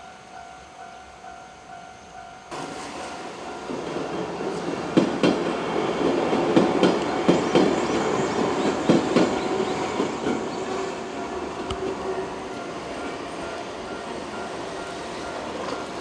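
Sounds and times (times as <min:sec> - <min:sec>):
train running rumble: 0:00.0 - 0:16.0
train wheels clacking over rail joints: 0:02.5 - 0:16.0.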